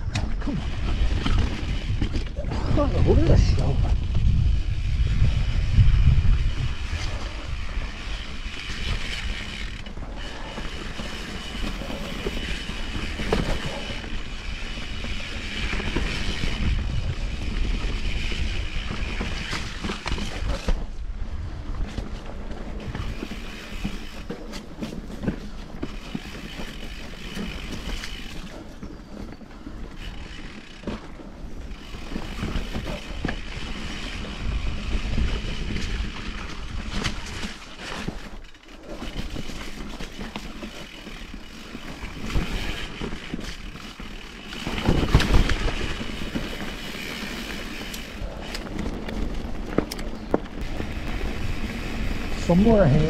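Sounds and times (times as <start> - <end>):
bike frame and chain rattling: 0.0 - 53.0
tyres rolling on dirt trail: 0.0 - 53.0.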